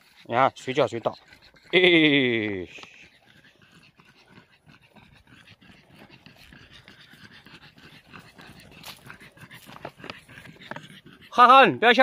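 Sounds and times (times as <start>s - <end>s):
dog panting rapidly: 0.0s - 12.0s.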